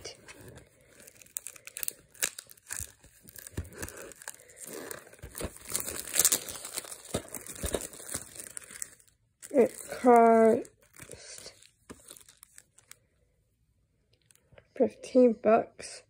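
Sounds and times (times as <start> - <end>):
shrink-wrap crinkling: 0.0 - 13.0.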